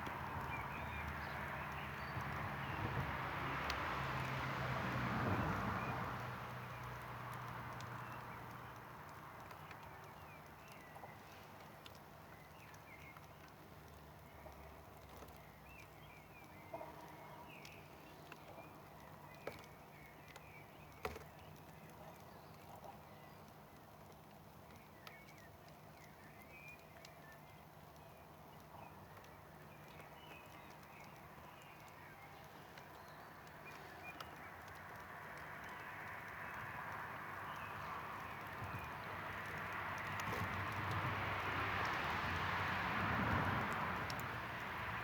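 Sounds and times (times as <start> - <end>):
campfire crackling and popping: 6.0 - 45.0.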